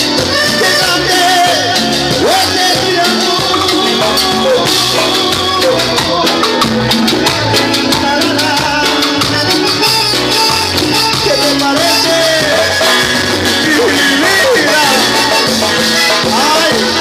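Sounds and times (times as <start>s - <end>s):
accordion: 0.0s - 17.0s
bass line: 0.0s - 17.0s
percussion beat: 0.0s - 17.0s.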